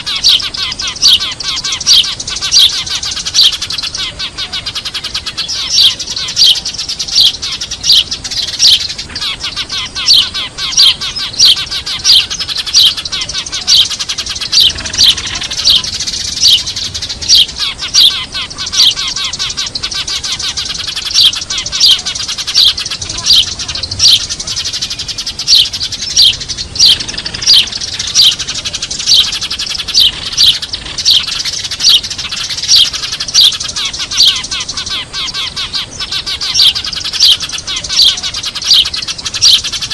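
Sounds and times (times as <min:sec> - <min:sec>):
busy bird chatter: 0:00.0 - 0:39.9
sparrows chirping: 0:00.0 - 0:39.9.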